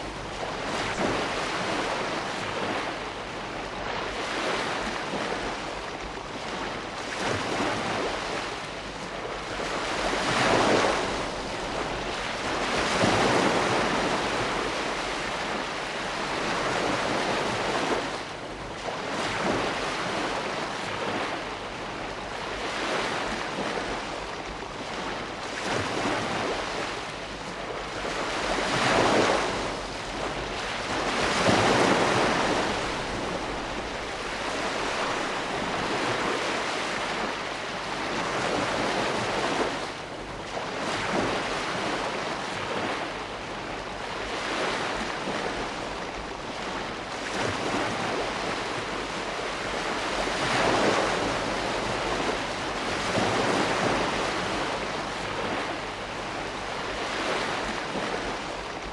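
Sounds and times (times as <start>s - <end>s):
ocean waves breaking: 0.0s - 58.9s.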